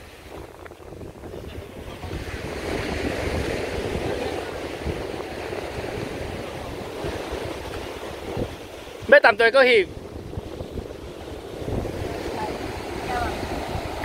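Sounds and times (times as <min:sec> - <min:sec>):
surf on pebble beach: 0:00.0 - 0:14.0
wind buffeting microphone: 0:00.0 - 0:14.0.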